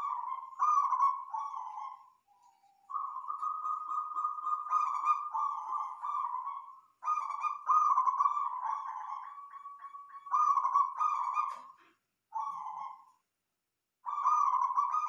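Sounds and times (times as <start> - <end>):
dove cooing in trills: 0.0 - 13.1, 14.1 - 15.0.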